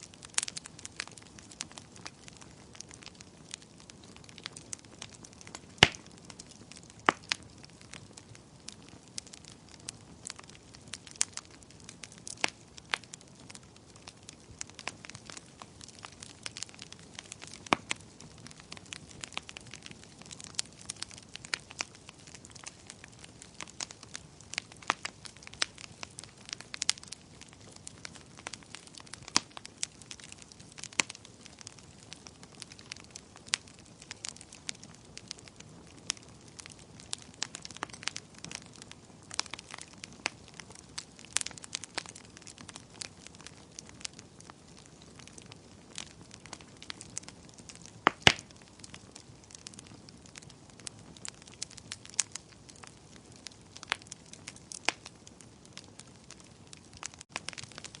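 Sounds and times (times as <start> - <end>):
low steady hiss: 0.0 - 58.0
wood fire crackling: 0.0 - 58.0.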